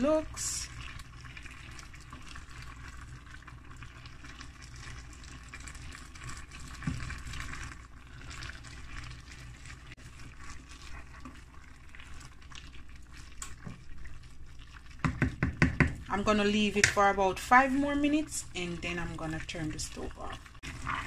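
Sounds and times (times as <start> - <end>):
stew bubbling in a pot: 0.0 - 21.0
wooden spoon stirring: 0.0 - 21.0.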